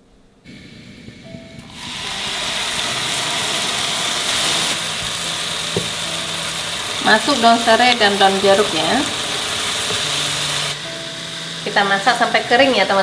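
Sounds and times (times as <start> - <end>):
spice paste sizzling in wok: 0.5 - 13.0.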